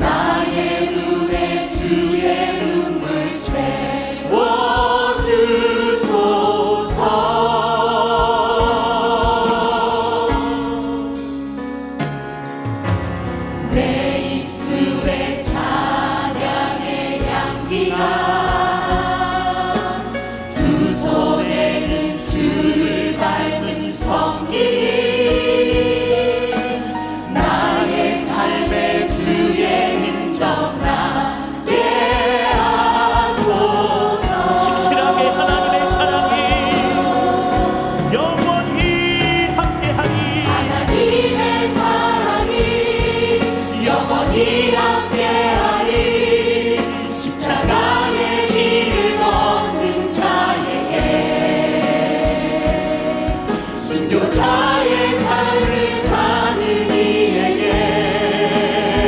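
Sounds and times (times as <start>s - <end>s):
choir singing praise song: 0.0s - 11.7s, 12.8s - 59.0s
band accompaniment: 0.0s - 59.0s
steady drum beats: 0.0s - 59.0s.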